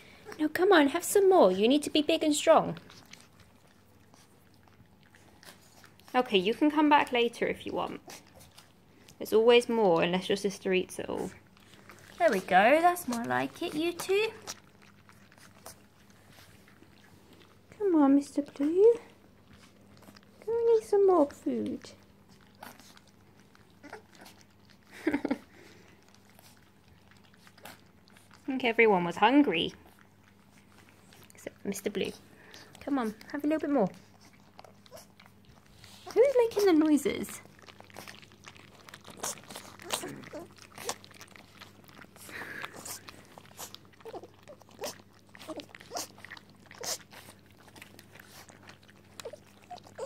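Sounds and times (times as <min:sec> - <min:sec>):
puppies chewing and smacking: 0:00.0 - 0:50.0.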